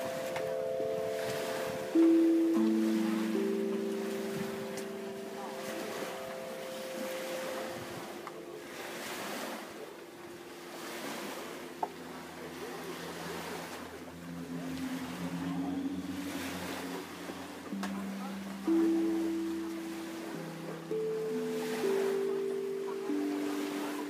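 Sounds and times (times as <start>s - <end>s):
water noise: 0.0s - 24.0s
wind: 0.0s - 24.0s
wind harp steady tones: 0.0s - 24.0s.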